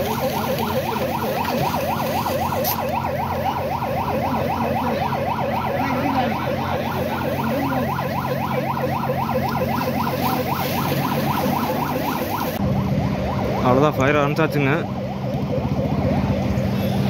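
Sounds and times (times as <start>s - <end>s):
siren yelping: 0.0s - 17.0s.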